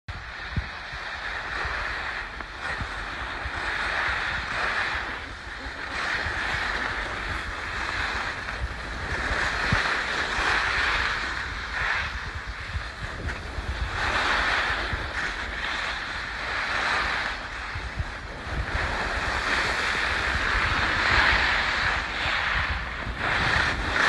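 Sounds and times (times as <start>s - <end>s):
wind rumble on microphone: 0.0s - 24.0s
skis scraping over snow: 0.1s - 24.0s.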